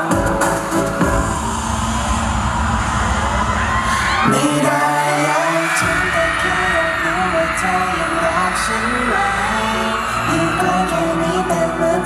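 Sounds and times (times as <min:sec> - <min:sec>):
live pop song with singing: 0:00.0 - 0:02.1, 0:03.6 - 0:12.0.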